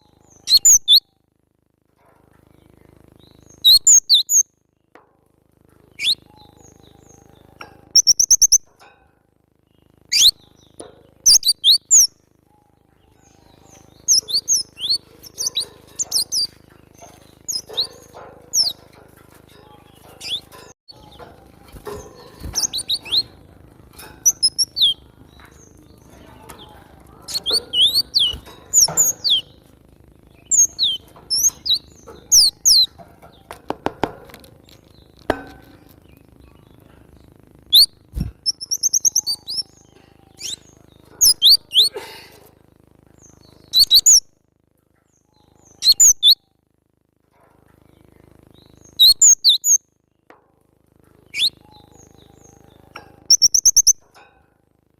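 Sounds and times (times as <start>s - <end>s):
bird chirping: 0.0s - 1.3s, 2.4s - 5.0s, 5.8s - 8.8s, 9.6s - 41.9s, 43.1s - 44.3s, 45.0s - 46.6s, 47.9s - 50.3s, 51.2s - 54.2s
low background hum: 0.0s - 54.9s.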